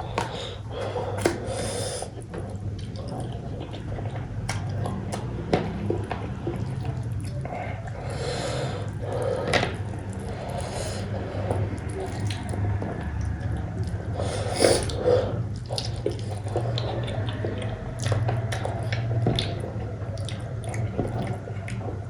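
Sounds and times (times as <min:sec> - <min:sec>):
low hum: 0:00.0 - 0:22.0
person chewing wetly: 0:00.0 - 0:22.0.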